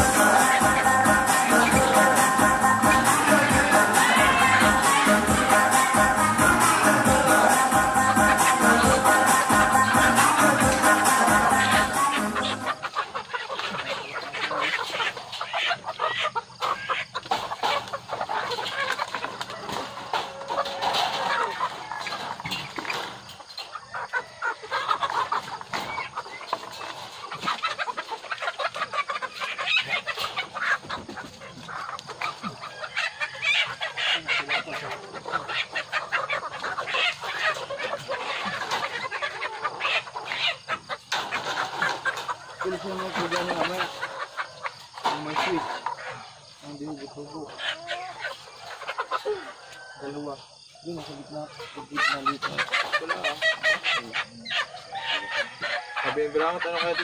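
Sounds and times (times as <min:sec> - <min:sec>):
hens clucking: 0:00.0 - 0:57.0.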